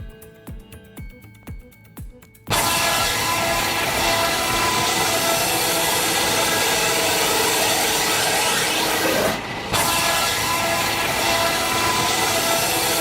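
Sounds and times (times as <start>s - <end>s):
band saw cutting through log: 2.5s - 13.0s.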